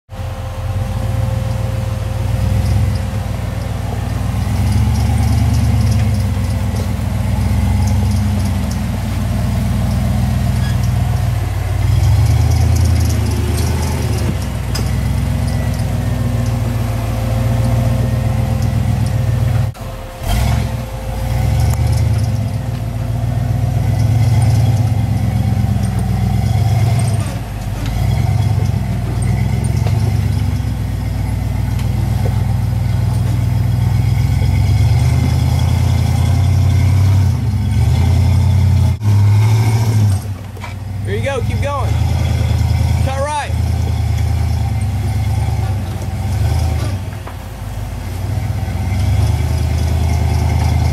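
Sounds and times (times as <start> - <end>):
off-road vehicle engine revving: 0.1 - 50.9.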